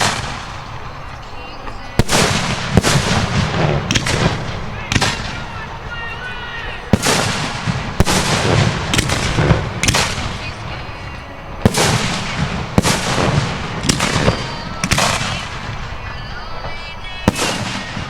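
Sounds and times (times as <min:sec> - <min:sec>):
fireworks bangs: 0:00.0 - 0:18.0
low rumble of fireworks: 0:00.0 - 0:18.0.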